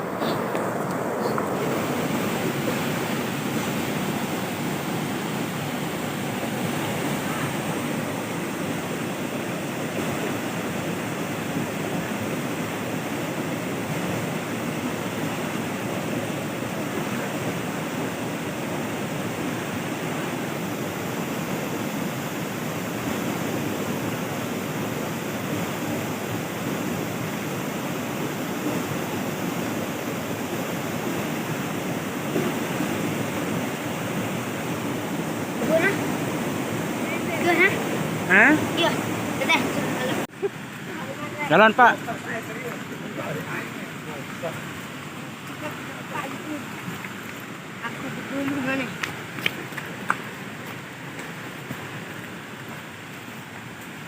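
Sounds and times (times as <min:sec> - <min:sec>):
rush of moving water: 0:00.0 - 0:54.0.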